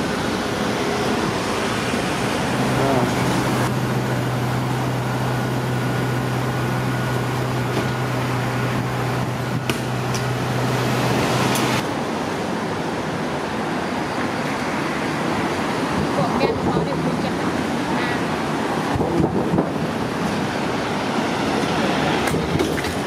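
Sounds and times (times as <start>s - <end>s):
city street traffic: 0.0s - 23.0s
vehicle engine hum: 0.0s - 23.0s.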